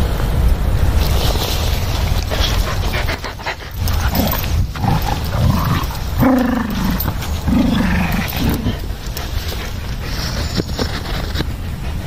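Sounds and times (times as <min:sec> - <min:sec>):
dogs scuffling: 0:00.8 - 0:12.0
dogs panting: 0:01.9 - 0:12.0
dogs throaty noises: 0:02.0 - 0:12.0.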